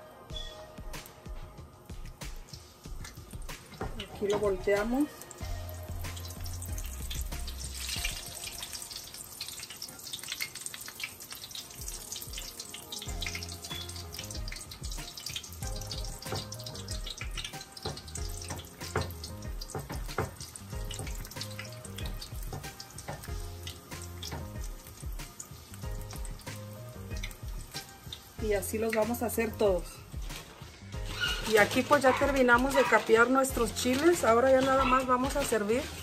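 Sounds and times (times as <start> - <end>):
chiles frying in hot oil: 0.0 - 36.0.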